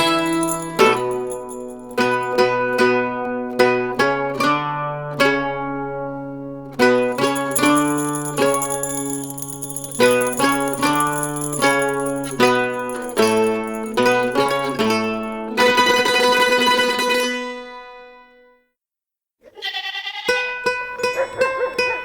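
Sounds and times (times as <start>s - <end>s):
mandolins playing a melody: 0.0s - 18.4s, 20.3s - 22.0s.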